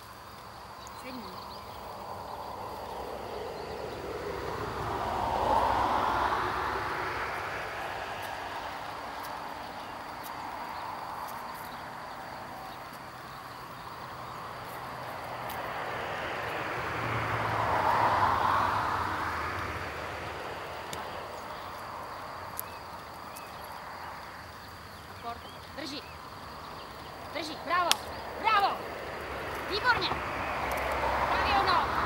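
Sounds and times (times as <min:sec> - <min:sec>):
distant vehicle passing: 0:00.0 - 0:32.0.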